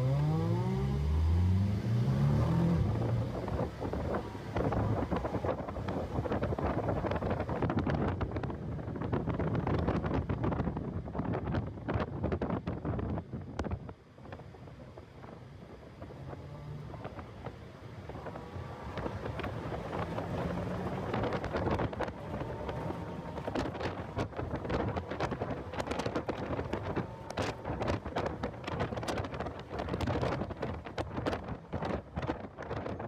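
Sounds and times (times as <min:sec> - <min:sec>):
faint car engine: 0:00.0 - 0:33.0
wind buffeting microphone: 0:02.2 - 0:33.0.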